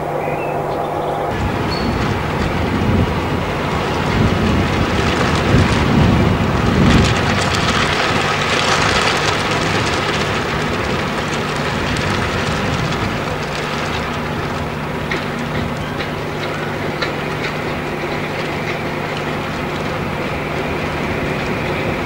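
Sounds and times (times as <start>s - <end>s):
diesel train engine hum: 0.0s - 22.0s
heavy low rumble: 0.0s - 22.0s
wheels clicking on track: 0.6s - 22.0s.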